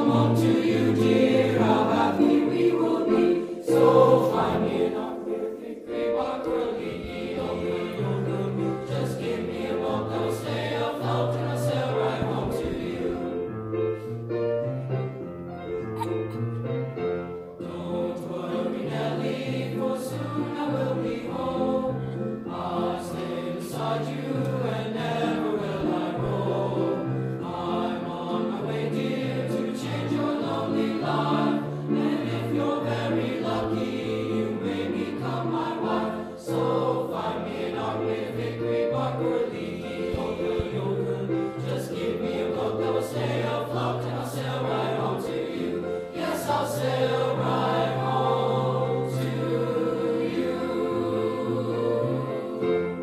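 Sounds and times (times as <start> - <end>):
boys' choir singing: 0.0 - 13.6, 17.6 - 53.0.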